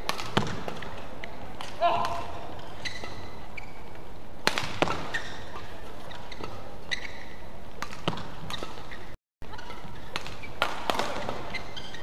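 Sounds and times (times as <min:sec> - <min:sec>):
racket hitting shuttlecock: 0:00.0 - 0:03.4, 0:04.4 - 0:12.0
arena background noise: 0:00.0 - 0:12.0
shoes squeaking on court: 0:00.0 - 0:12.0.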